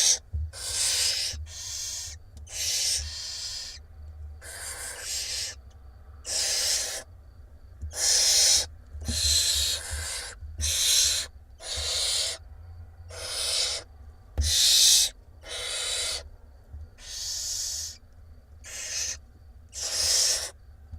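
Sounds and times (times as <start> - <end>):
owl chicks hissing: 0.0 - 5.6, 6.2 - 7.1, 7.9 - 12.4, 13.1 - 16.3, 17.0 - 18.0, 18.6 - 20.6.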